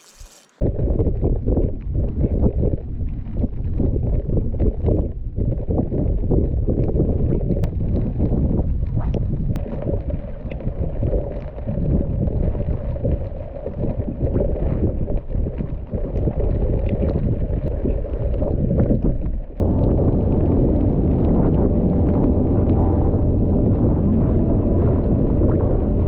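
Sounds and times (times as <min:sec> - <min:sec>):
wind buffeting microphone: 0:00.6 - 0:26.0.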